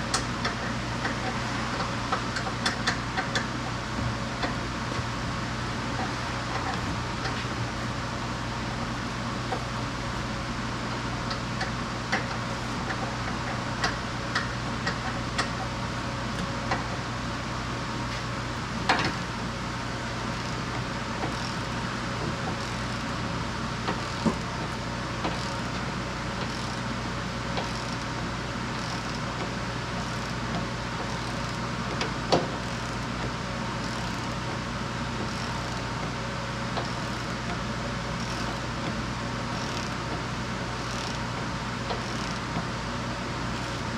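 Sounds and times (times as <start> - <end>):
low workshop hum: 0.0 - 43.9.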